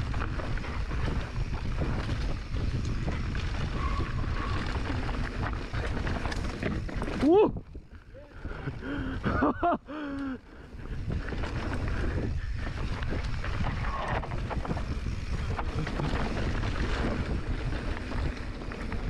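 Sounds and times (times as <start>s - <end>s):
wind rumbling on microphone: 0.0s - 9.7s, 10.6s - 19.0s.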